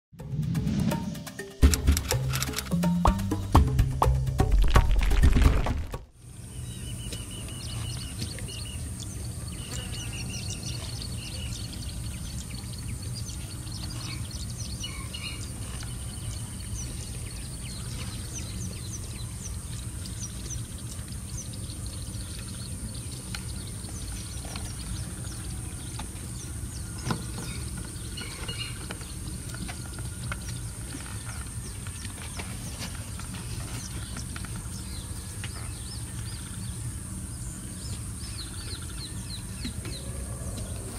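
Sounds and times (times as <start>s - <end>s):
birds chirping: 4.5s - 40.9s.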